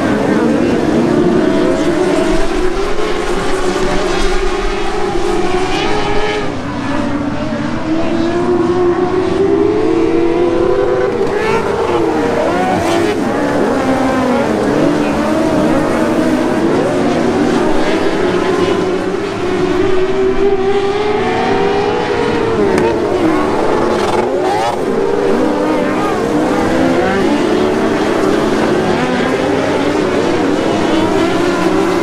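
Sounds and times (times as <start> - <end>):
race car engines running: 0.0 - 32.0.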